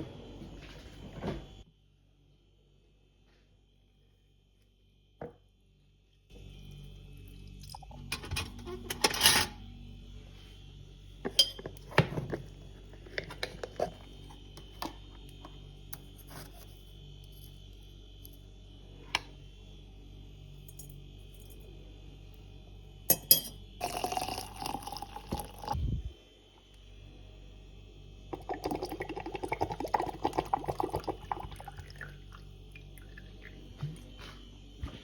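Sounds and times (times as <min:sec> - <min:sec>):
faint high whine: 0:00.0 - 0:35.0
steady hum: 0:00.0 - 0:35.0.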